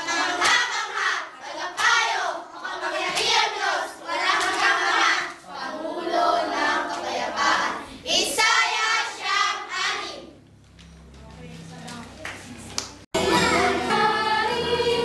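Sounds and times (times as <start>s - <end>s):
children singing: 0.0s - 10.2s, 13.2s - 15.0s.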